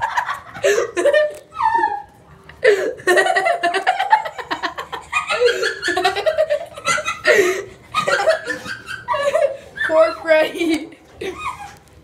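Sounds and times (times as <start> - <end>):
person laughing: 0.0 - 11.6.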